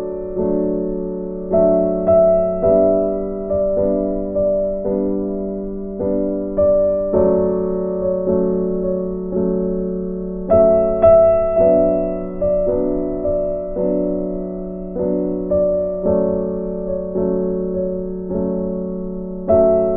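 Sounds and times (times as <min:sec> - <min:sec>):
soft keyboard chords: 0:00.0 - 0:19.9.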